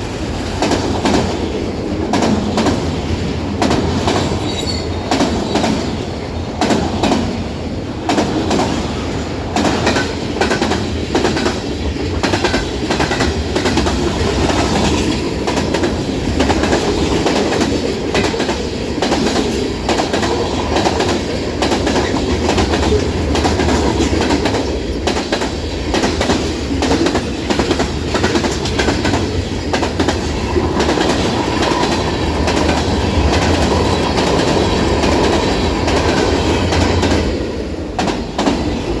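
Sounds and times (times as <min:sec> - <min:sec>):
continuous train rumble: 0:00.0 - 0:39.0
train wheels clacking over rail joints: 0:00.0 - 0:39.0.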